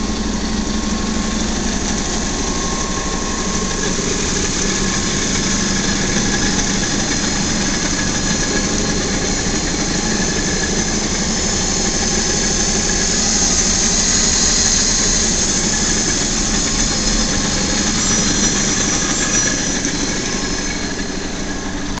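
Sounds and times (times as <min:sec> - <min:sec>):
machine hum with high tone: 0:00.0 - 0:22.0.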